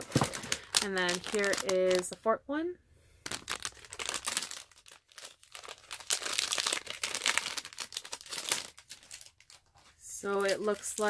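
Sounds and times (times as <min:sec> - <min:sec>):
plastic pouch crinkling: 0:00.0 - 0:02.3, 0:03.2 - 0:11.0.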